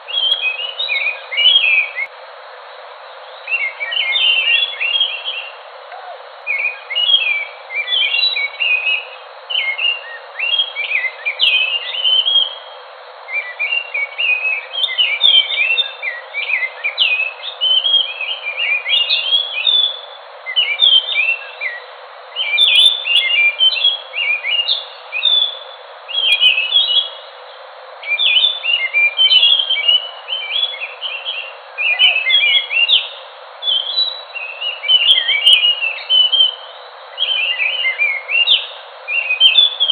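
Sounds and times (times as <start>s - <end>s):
bird singing warbling song: 0.0s - 2.1s, 3.2s - 39.9s
steady hiss: 0.0s - 39.9s.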